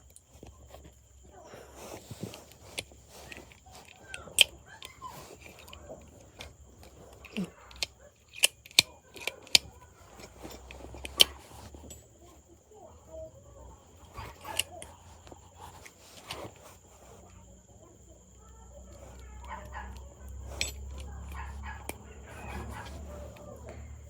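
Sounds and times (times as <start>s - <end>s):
metal parts clicking and tapping: 0.0s - 12.2s, 13.8s - 17.2s, 18.6s - 24.0s.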